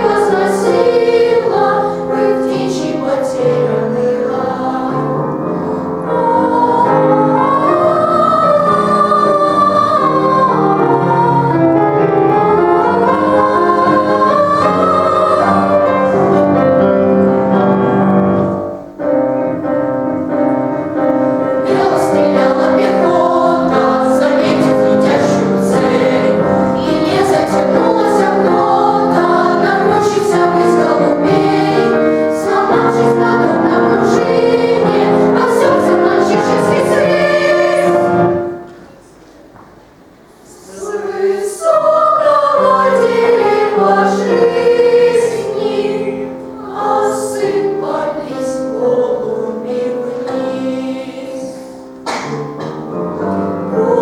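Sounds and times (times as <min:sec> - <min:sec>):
boys choir singing: 0:00.0 - 0:18.6, 0:21.3 - 0:38.7, 0:40.4 - 0:52.4, 0:53.2 - 0:54.0
piano accompaniment: 0:00.0 - 0:54.0.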